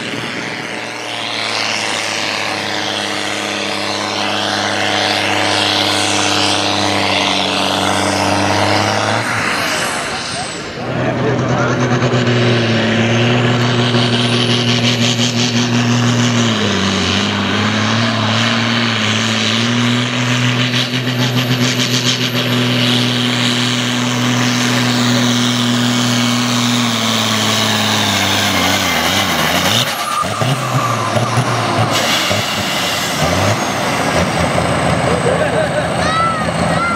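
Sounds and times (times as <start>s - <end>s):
tractor diesel engine revving: 0.0s - 36.9s.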